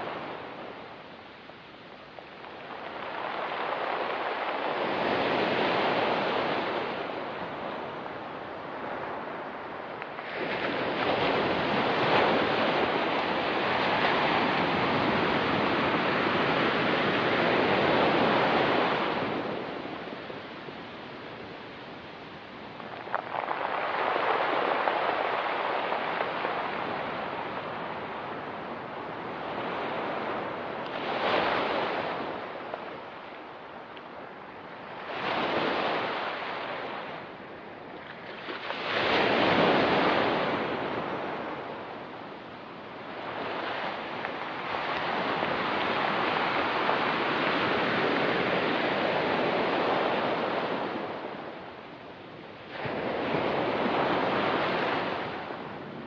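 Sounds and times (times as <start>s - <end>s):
ocean waves breaking on rocks: 2.2s - 51.9s, 52.5s - 56.0s.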